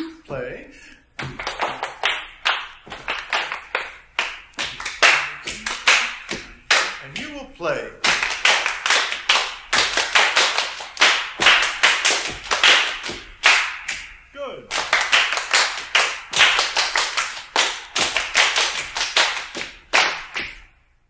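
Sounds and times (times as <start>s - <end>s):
hand claps: 1.2s - 7.3s, 8.0s - 20.7s.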